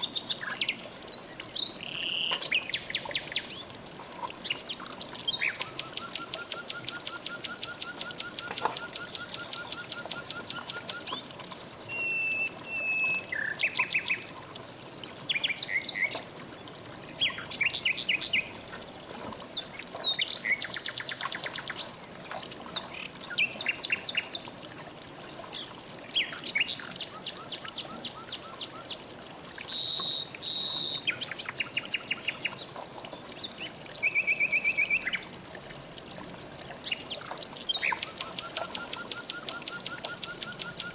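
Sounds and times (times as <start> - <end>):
songbirds singing and calling: 0.0 - 3.8, 4.4 - 18.7, 19.5 - 22.0, 22.6 - 24.5, 25.5 - 29.0, 29.6 - 35.4, 36.7 - 40.9
flowing river water: 0.0 - 40.9.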